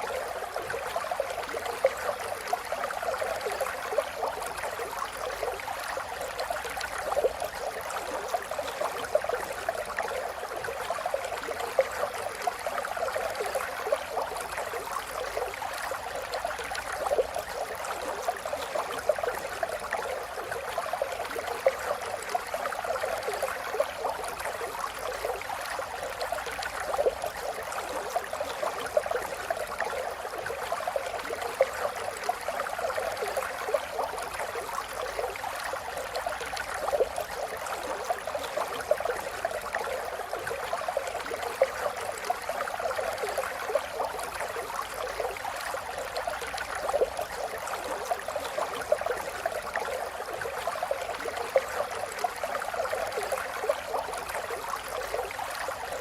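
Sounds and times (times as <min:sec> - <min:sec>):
river water flowing over stones: 0:00.0 - 0:56.0.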